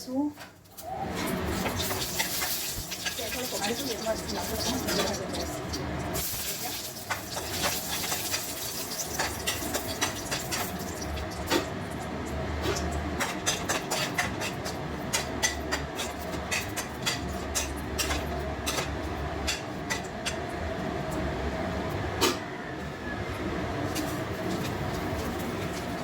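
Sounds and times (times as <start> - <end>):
spices frying in hot oil: 0.1 - 22.4, 23.7 - 26.0.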